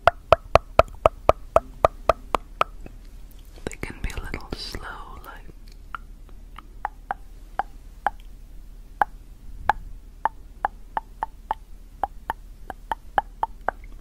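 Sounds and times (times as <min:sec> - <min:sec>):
sharp tongue clicks: 0:00.0 - 0:04.5, 0:05.1 - 0:08.3, 0:09.0 - 0:14.0.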